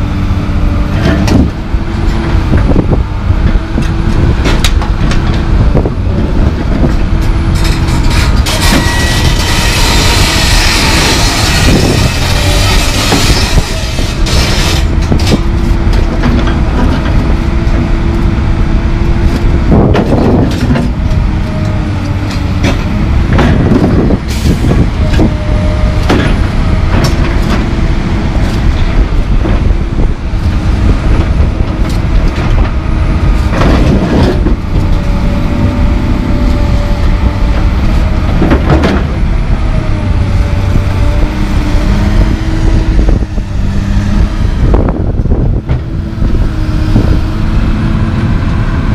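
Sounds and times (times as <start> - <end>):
excavator engine rumbling: 0.0 - 48.9.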